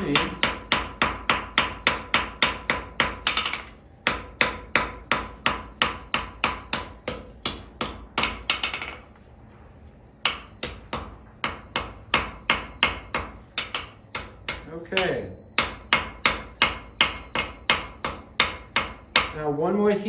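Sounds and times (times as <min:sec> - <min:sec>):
hammer striking steel on anvil: 0:00.0 - 0:09.2, 0:10.2 - 0:19.6.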